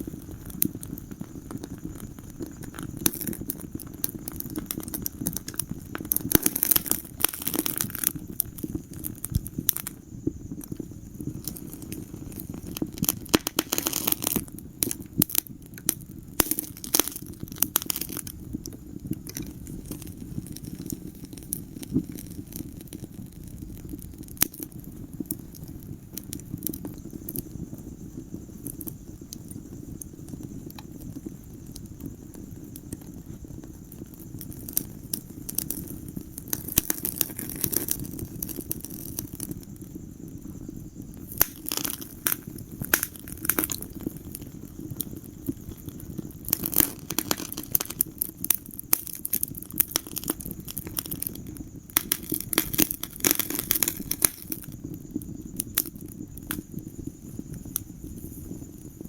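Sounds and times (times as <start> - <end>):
fire crackling and popping: 0.0 - 59.0
fire flames rumbling: 0.0 - 59.0.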